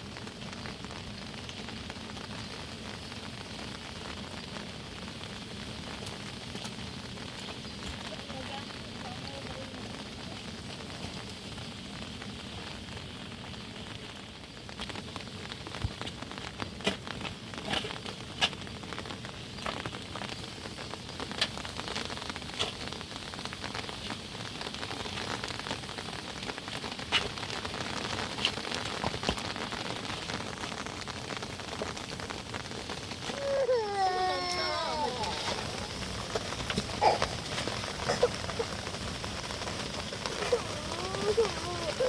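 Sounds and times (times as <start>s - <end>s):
rain falling on a surface: 0.0s - 42.0s.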